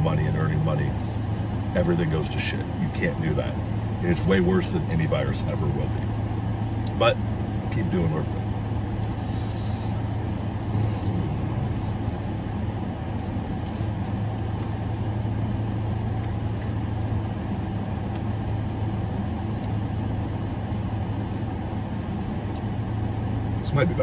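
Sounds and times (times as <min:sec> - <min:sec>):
idling car hum: 0:00.0 - 0:24.0.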